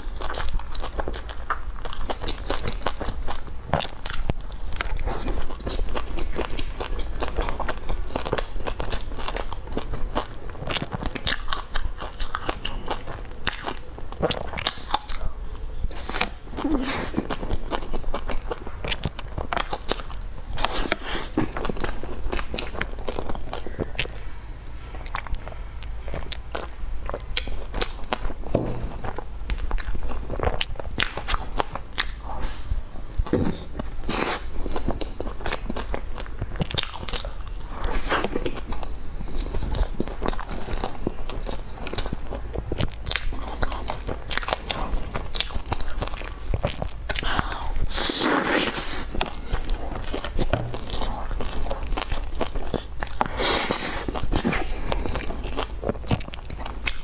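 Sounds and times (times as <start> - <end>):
chewing crunchy pastry: 0.0 - 57.0.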